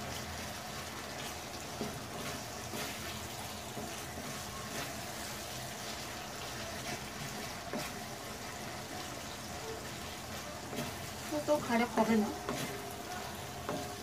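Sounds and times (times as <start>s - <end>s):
prawns sizzling in a pan: 0.0s - 14.0s.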